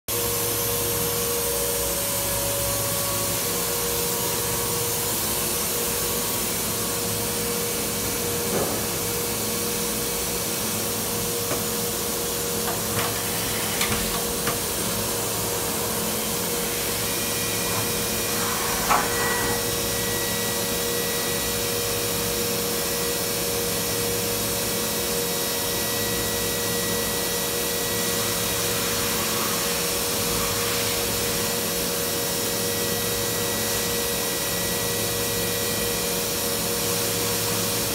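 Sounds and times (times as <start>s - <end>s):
machine whirring with hum: 0.1s - 37.9s.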